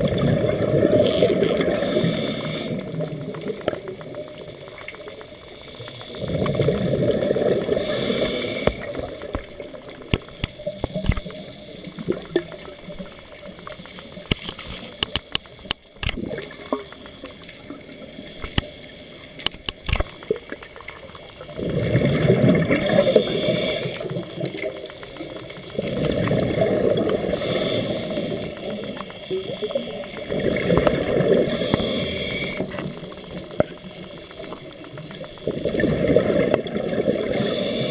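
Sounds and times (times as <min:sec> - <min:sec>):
exhaled bubbles rushing underwater: 0:00.0 - 0:37.9
sharp clicks and crackles: 0:00.0 - 0:37.9.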